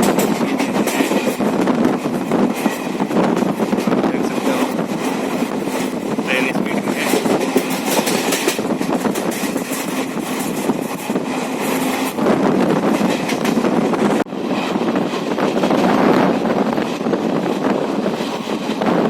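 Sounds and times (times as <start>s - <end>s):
passenger train on rails: 0.0s - 19.0s.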